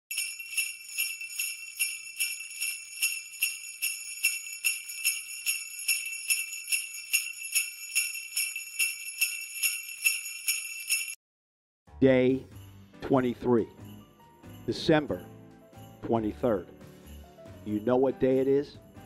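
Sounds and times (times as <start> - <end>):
sleigh bells jingling: 0.1 - 11.2, 12.5 - 19.0.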